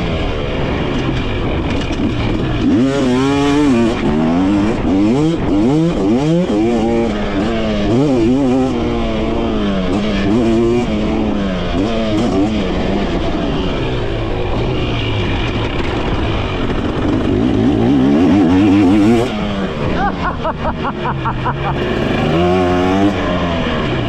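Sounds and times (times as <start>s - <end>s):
two-stroke motorcycle engine revving: 0.0s - 24.0s.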